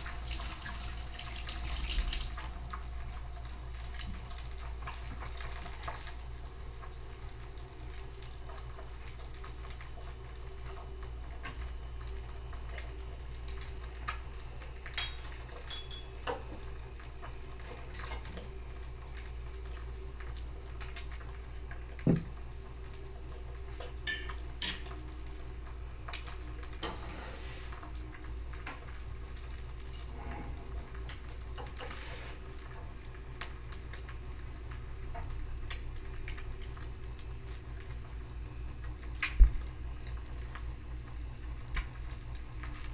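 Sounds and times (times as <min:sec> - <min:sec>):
oil sizzling with pops: 0:00.0 - 0:42.9.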